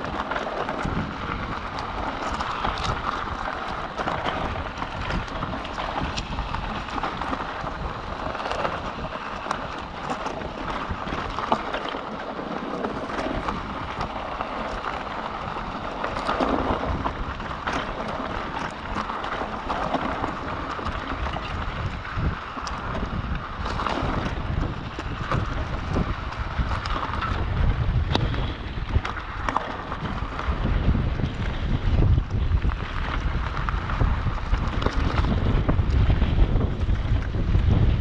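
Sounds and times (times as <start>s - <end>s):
bike knocks and rattles: 0.0s - 38.0s
tyres rumbling on rocky trail: 0.0s - 38.0s
wind buffeting microphone: 0.0s - 38.0s.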